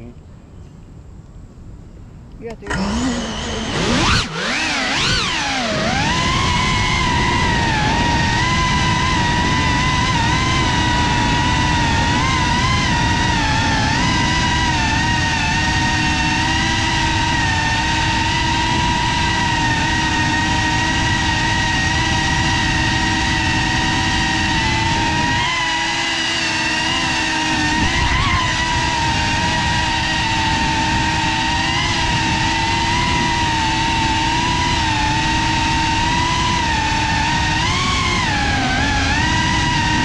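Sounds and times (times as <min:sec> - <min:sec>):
drone motors whining: 0:02.4 - 0:40.0.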